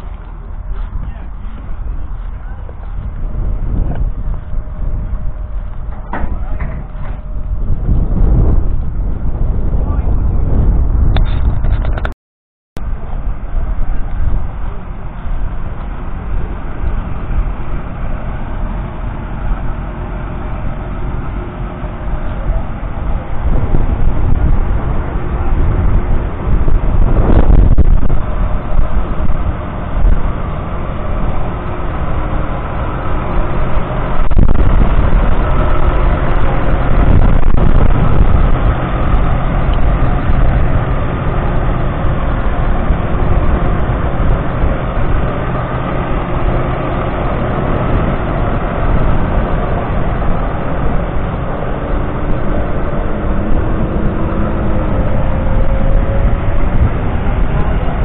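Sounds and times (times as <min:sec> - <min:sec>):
tractor diesel engine running: 0:00.0 - 0:12.2, 0:12.8 - 0:58.0.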